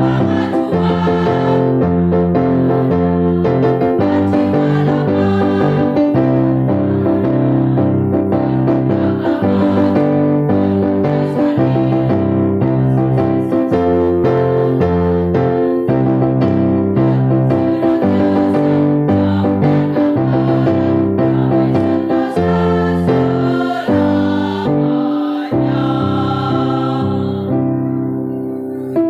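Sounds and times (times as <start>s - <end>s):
women's choir singing: 0.0s - 15.8s, 16.4s - 28.0s
electric keyboard chords: 0.0s - 29.0s.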